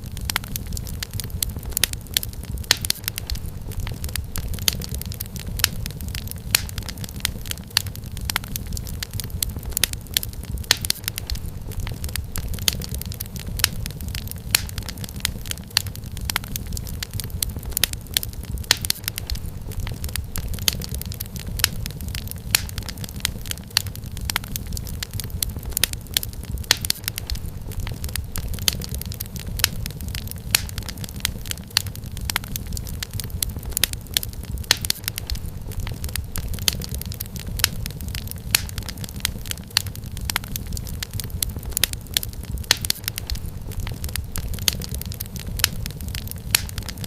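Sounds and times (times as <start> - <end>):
low rumble of burning logs: 0.0 - 47.0
wood fire crackling: 0.0 - 47.0.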